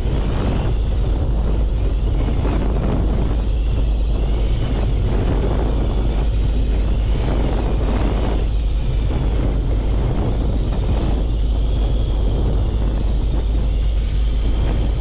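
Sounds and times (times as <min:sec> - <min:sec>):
boat engine rumble: 0:00.0 - 0:15.0
faint wavering whine: 0:00.0 - 0:15.0
wind on microphone: 0:00.0 - 0:15.0.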